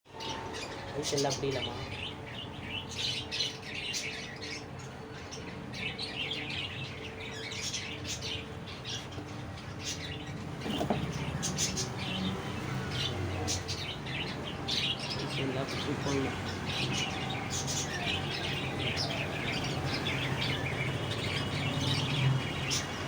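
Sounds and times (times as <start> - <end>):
small birds chirping: 0.1 - 23.0.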